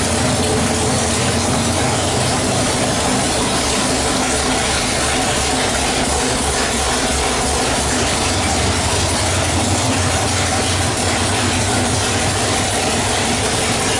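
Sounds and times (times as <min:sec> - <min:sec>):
engine running steadily: 0:00.0 - 0:13.9.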